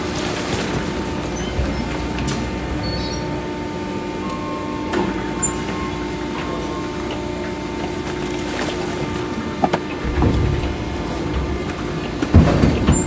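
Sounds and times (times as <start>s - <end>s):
garbage truck engine droning: 0.0s - 13.0s.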